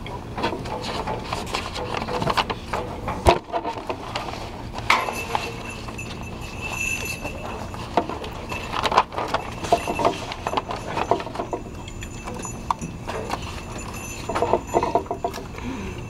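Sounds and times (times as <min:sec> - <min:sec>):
handling clicks and knocks: 0:00.0 - 0:15.6.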